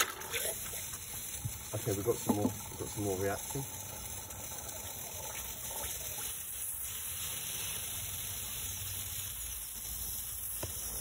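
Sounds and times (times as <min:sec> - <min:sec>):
sodium fizzing in water: 0:00.0 - 0:11.0.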